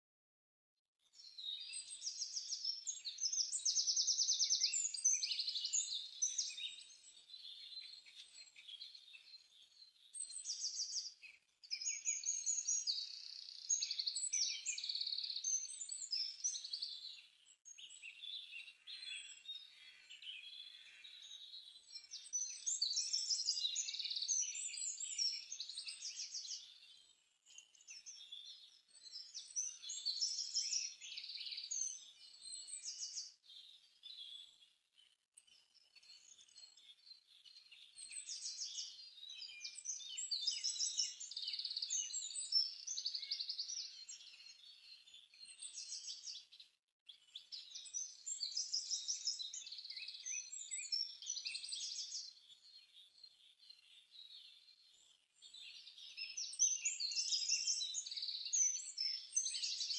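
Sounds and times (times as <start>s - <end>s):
songbirds singing: 1.1s - 59.9s.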